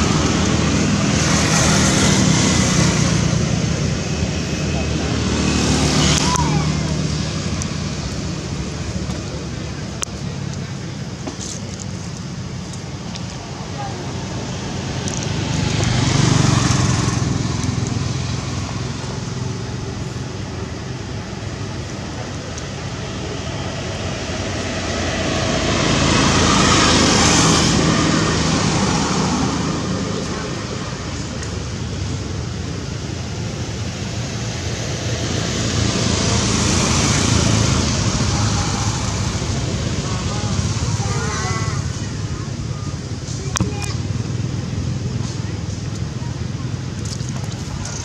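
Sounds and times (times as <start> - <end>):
motor engine humming: 0.0 - 48.0
rushing outdoor background noise: 0.0 - 48.0.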